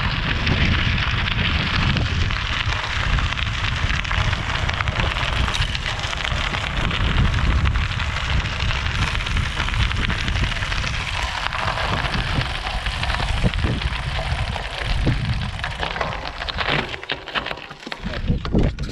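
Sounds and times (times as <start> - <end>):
bicycle tyres crunching gravel: 0.0 - 18.9
low rumble: 0.0 - 18.9.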